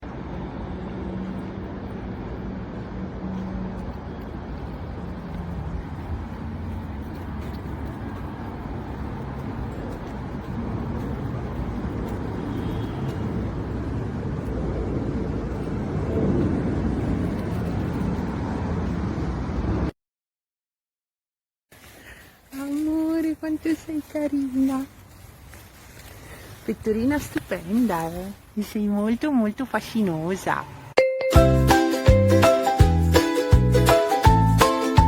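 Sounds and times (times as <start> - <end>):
road traffic rumble: 0.0 - 19.9, 21.7 - 35.0.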